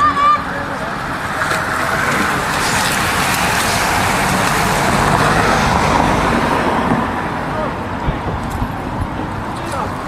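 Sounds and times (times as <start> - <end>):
bicycles passing with tyre rush: 0.0 - 10.0.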